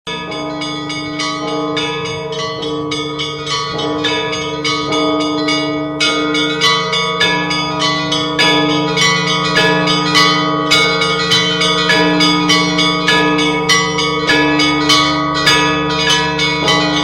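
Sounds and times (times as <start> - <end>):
large bells humming: 0.1 - 17.0
small bells striking: 0.1 - 17.0.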